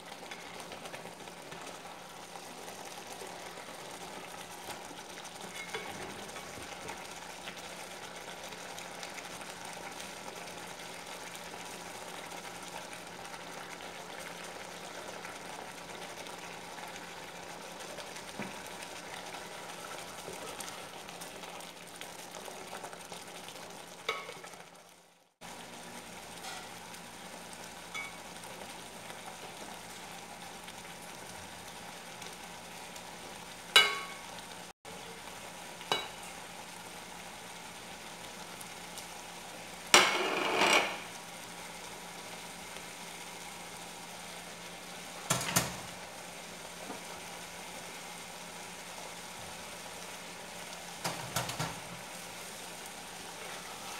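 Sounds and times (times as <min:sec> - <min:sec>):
pot simmering and sizzling: 0:00.0 - 0:53.9.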